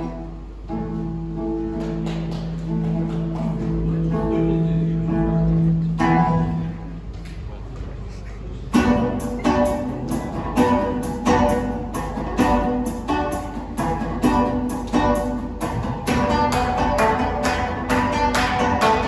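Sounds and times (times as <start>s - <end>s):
strummed guitar music: 0.0s - 7.1s, 8.7s - 19.0s.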